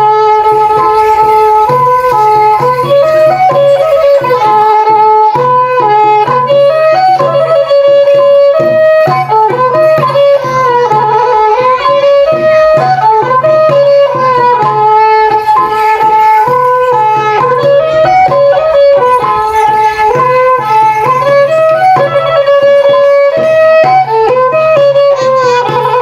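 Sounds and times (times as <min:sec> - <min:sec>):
drum strokes: 0:00.0 - 0:26.0
fast melody of pitched notes: 0:00.0 - 0:26.0.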